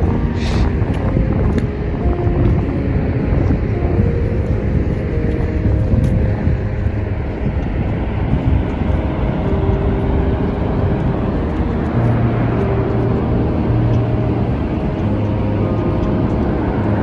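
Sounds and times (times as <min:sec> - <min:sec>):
waterfall roaring: 0:00.0 - 0:17.0
wind rumbling on microphone: 0:00.0 - 0:17.0.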